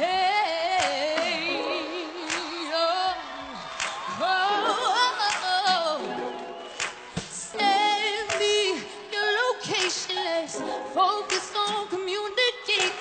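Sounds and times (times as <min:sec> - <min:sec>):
woman singing: 0:00.0 - 0:06.4, 0:07.2 - 0:13.0.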